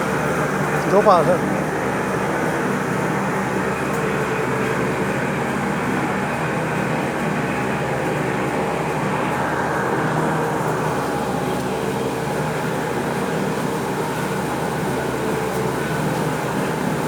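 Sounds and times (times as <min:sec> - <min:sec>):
weaving looms running: 0:00.0 - 0:17.0.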